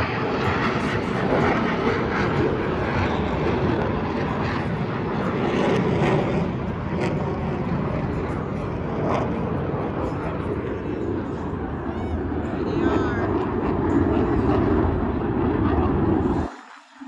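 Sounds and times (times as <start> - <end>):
jet flyover rushing: 0.0 - 17.0.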